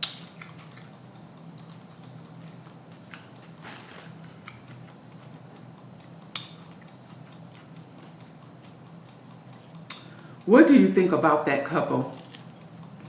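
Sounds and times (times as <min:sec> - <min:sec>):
person chewing food: 0:00.0 - 0:10.4, 0:12.1 - 0:13.0
steady low hum: 0:00.0 - 0:13.0.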